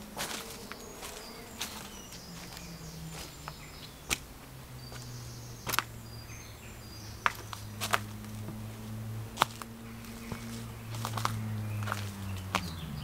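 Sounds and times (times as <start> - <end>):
footsteps on dirt and leaves: 0.0 - 13.0
steady low hum: 0.0 - 13.0.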